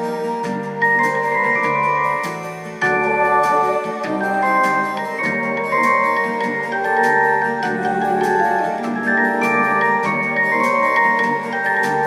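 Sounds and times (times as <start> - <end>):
keyboard melody: 0.0 - 12.0
bass line: 0.5 - 12.0
drum beat: 0.5 - 12.0.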